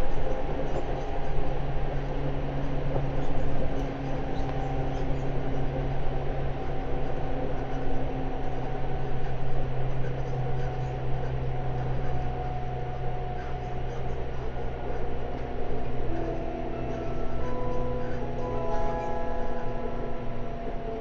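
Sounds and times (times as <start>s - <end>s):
low steady hum: 0.0s - 21.0s
train wheels rumbling on rails: 0.0s - 21.0s.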